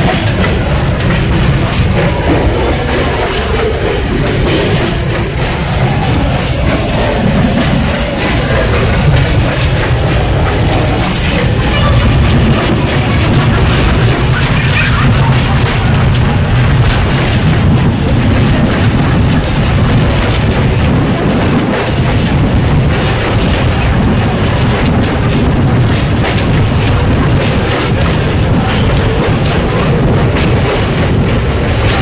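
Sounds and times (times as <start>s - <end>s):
rail clicks: 0.0s - 32.0s
train wheels rumbling on rails: 0.0s - 32.0s
wind rushing past microphone: 0.0s - 32.0s.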